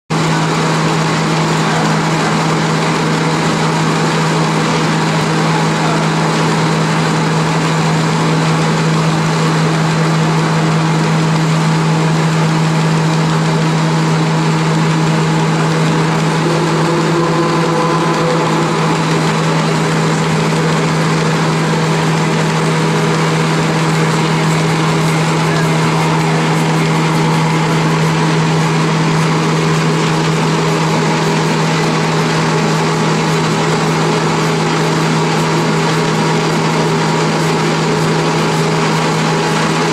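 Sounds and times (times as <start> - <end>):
machine hum and drone: 0.2 - 39.9.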